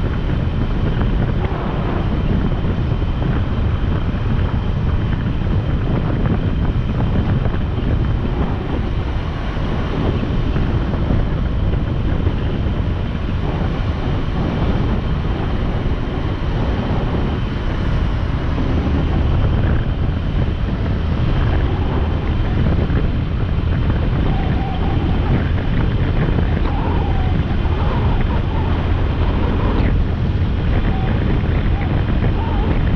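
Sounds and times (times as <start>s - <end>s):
wind buffeting on microphone: 0.0s - 32.9s.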